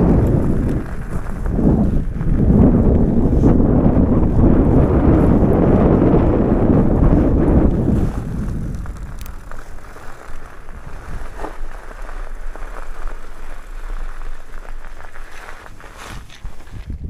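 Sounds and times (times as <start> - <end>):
bike tyres crunching gravel: 0.0 - 17.0
low rumble: 0.0 - 17.0
wind buffeting microphone: 0.0 - 17.0.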